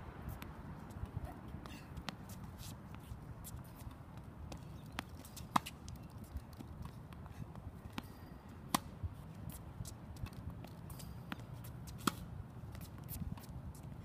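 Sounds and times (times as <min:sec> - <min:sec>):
faint background noise: 0:00.0 - 0:14.0
tennis balls hit and bouncing: 0:01.6 - 0:14.0.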